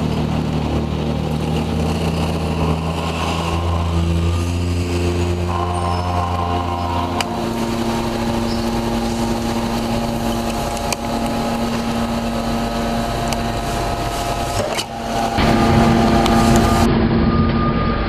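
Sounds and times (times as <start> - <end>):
baler machine humming: 0.0 - 18.0.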